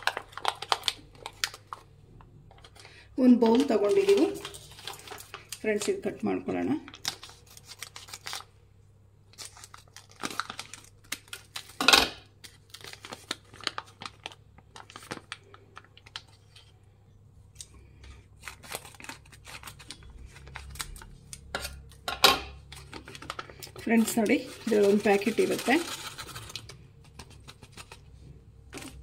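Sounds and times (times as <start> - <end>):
packaging crinkling: 0.0 - 6.0, 6.8 - 8.6, 9.3 - 16.7, 18.4 - 22.0, 22.6 - 29.0.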